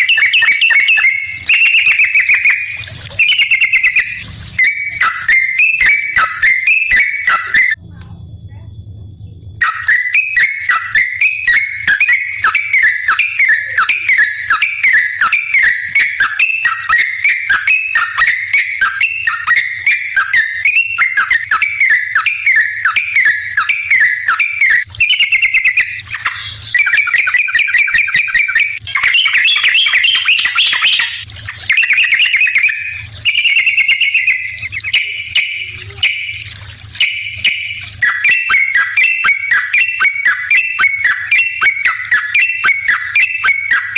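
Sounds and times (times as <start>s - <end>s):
bulbul singing: 0.0s - 7.8s, 9.2s - 43.9s.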